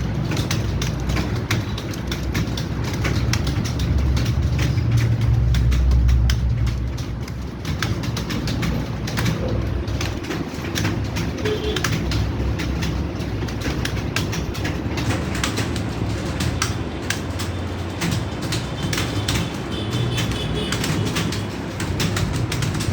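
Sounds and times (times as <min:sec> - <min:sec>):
computer keyboards clattering: 0:00.0 - 0:22.9.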